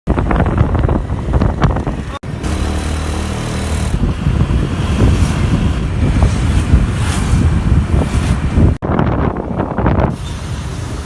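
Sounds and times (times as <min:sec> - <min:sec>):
engine hum: 0:00.1 - 0:11.0
wind buffeting microphone: 0:00.1 - 0:11.0.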